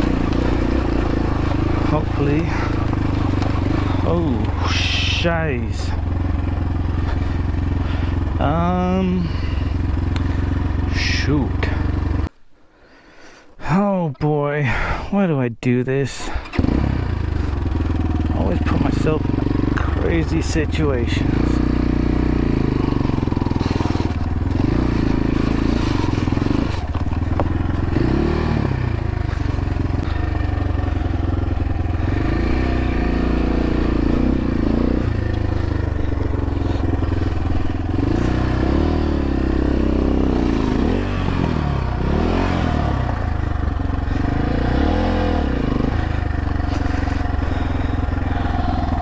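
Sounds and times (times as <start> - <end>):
dirt bike engine revving: 0.0 - 12.3, 16.4 - 49.0.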